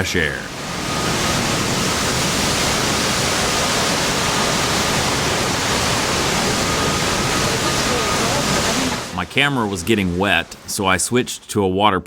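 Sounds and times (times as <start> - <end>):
storm wind roaring on microphone: 0.0 - 10.8.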